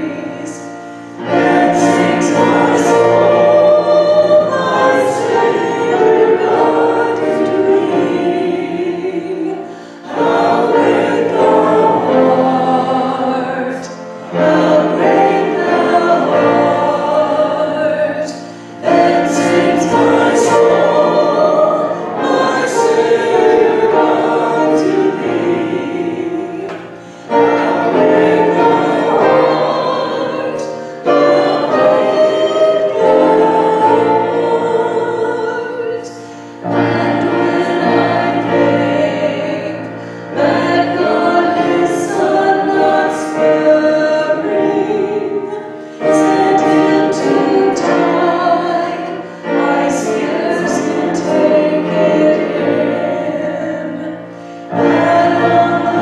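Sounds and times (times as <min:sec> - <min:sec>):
woman singing a hymn: 0:00.0 - 0:54.1.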